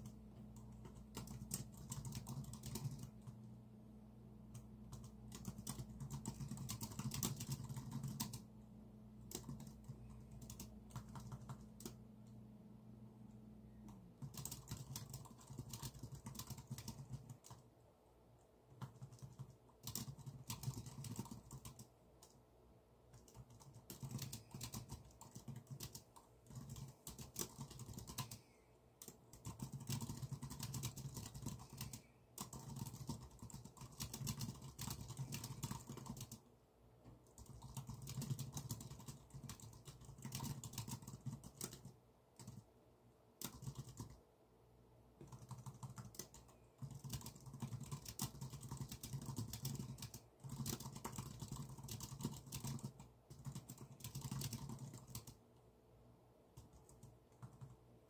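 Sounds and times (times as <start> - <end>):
typing on a keyboard: 0.0 - 3.4, 4.5 - 8.5, 9.2 - 12.0, 13.9 - 17.6, 18.7 - 22.4, 23.1 - 36.5, 37.2 - 42.7, 43.4 - 44.2, 45.2 - 55.4, 56.6 - 57.9.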